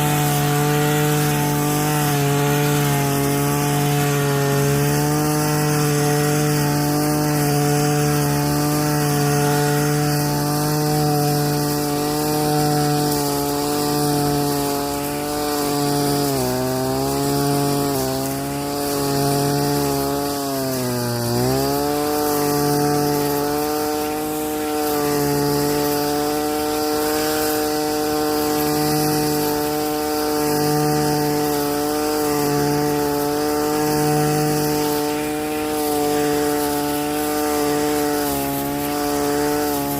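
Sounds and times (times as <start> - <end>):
weed whacker engine running: 0.0 - 39.9.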